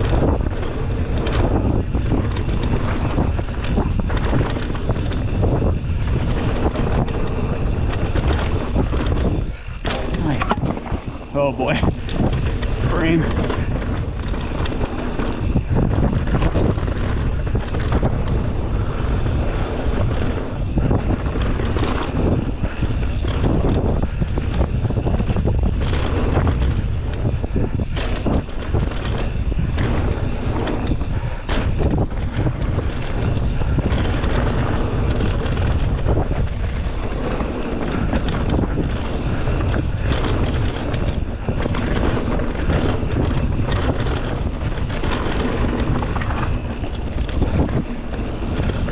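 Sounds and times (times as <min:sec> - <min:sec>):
bike rattling and knocking: 0:00.0 - 0:48.9
wind on microphone: 0:00.0 - 0:48.9.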